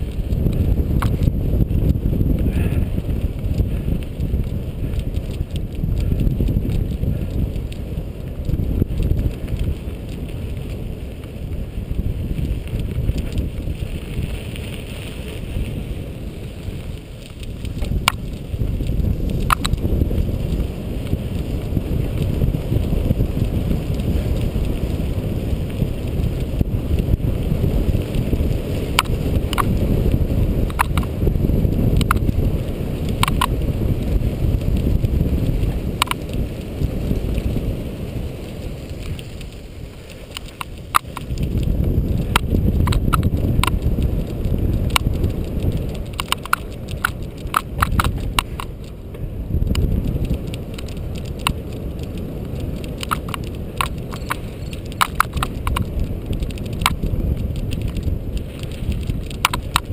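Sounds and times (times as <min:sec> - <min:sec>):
bike clicks: 0:00.0 - 0:59.9
tyres rumbling on gravel: 0:00.0 - 0:59.9
wind on microphone: 0:00.0 - 0:59.9.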